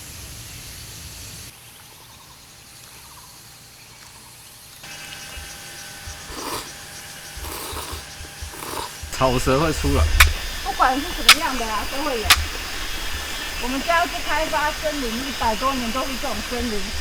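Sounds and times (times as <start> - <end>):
faint chirps: 0.0 - 17.0
insects hissing: 0.0 - 17.0.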